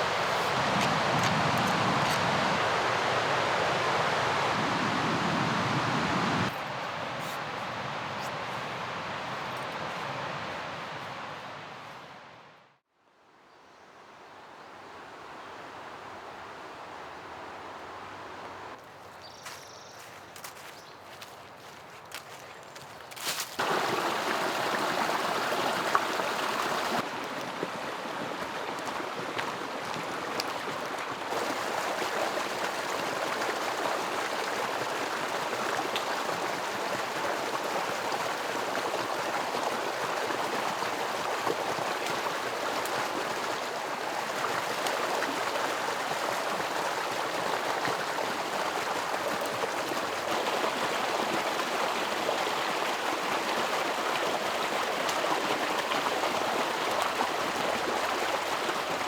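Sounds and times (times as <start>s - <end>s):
river rushing: 0.0s - 12.4s, 23.3s - 59.0s.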